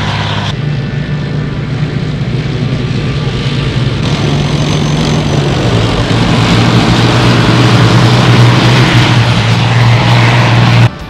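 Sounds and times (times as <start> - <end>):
tank diesel engines droning: 0.0 - 11.0.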